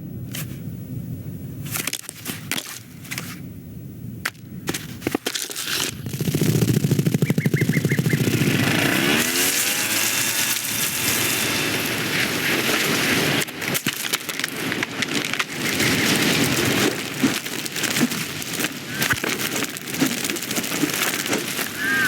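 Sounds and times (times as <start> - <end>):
rustling crackling wash: 0.0 - 22.0.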